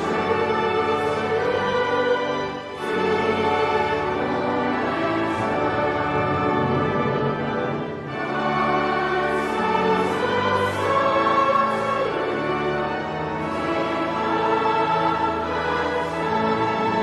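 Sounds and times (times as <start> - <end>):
choir singing long notes: 0.0 - 17.0
orchestral accompaniment: 0.0 - 17.0.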